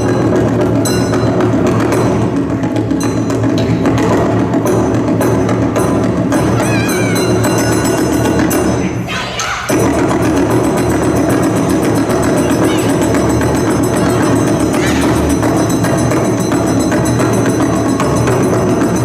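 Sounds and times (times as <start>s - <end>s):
upbeat dance music with percussion: 0.0s - 19.0s.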